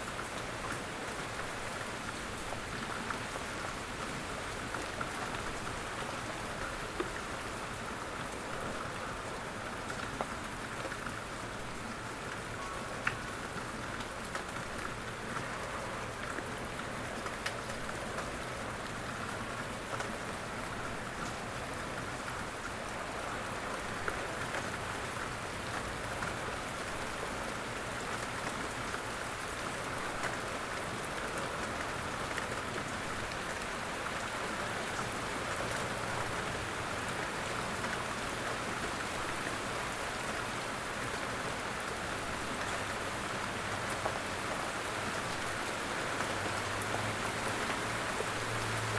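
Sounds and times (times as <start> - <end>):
rain pattering on surface: 0.0 - 48.9.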